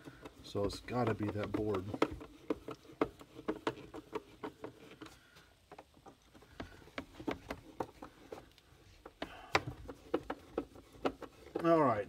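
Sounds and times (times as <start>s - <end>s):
hands handling plastic case: 0.0s - 12.0s.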